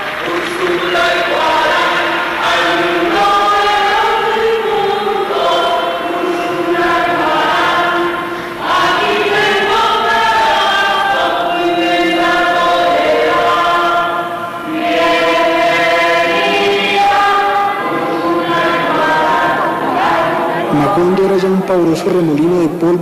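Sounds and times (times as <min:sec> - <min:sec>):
choir chanting long notes: 0:00.0 - 0:22.0.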